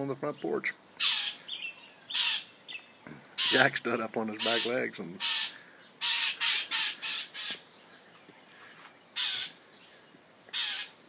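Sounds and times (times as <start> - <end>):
bird harsh raspy scold calls: 1.0 - 7.8, 8.4 - 11.0.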